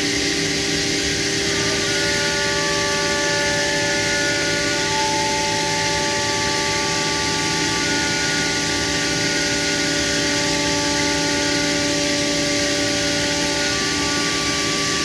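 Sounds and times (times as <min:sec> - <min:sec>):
high whining tones: 0:00.0 - 0:15.0
machine hiss: 0:00.0 - 0:15.0.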